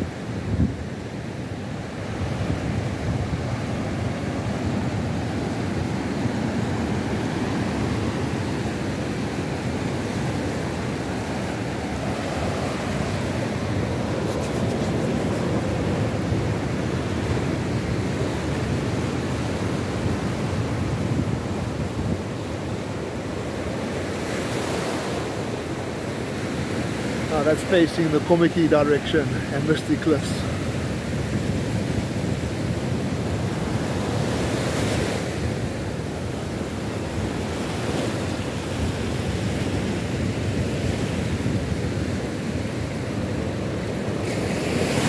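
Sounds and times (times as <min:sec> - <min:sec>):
surf washing up beach: 0:00.0 - 0:45.0.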